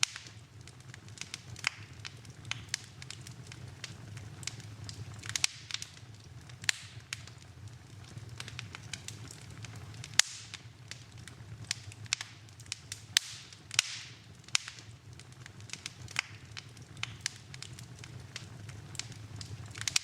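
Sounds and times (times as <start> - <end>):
fireplace fire crackling: 0.0 - 20.0
low steady rumble: 0.0 - 20.0.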